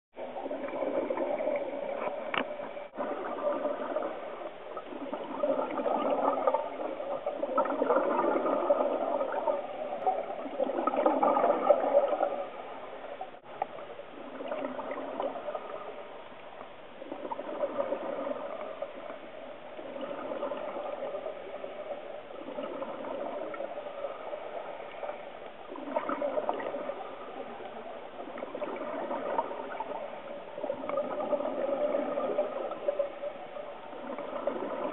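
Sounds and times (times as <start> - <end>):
underwater bubbles gurgling: 0.2 - 34.9.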